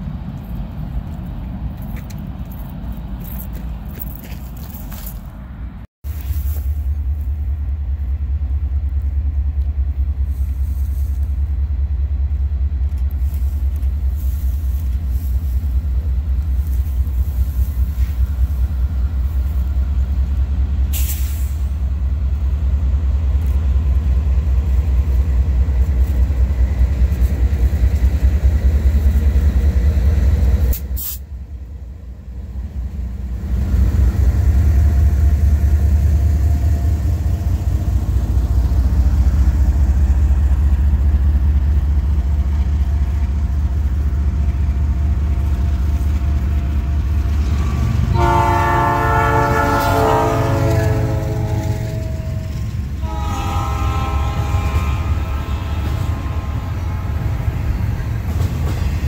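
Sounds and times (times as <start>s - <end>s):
diesel freight train rumble: 0.0s - 59.0s.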